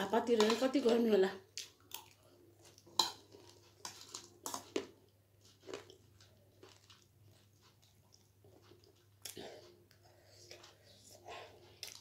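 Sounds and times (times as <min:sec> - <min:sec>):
person chewing crunchy food: 0:01.6 - 0:12.0.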